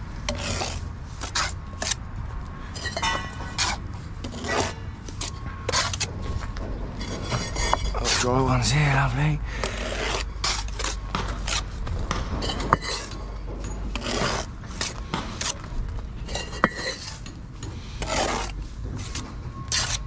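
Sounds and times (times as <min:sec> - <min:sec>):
trowel scraping bricks and mortar: 0:00.3 - 0:02.0, 0:02.7 - 0:20.0.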